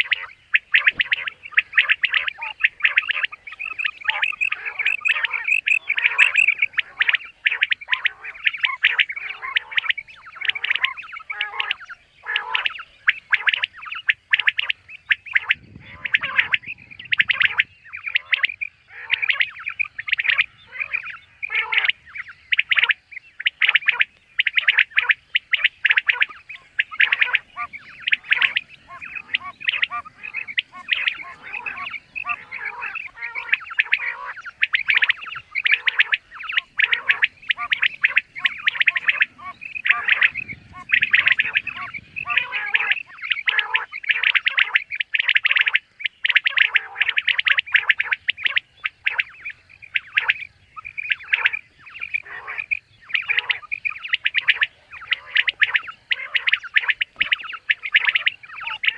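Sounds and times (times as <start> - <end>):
quail calling: 0.0 - 58.9.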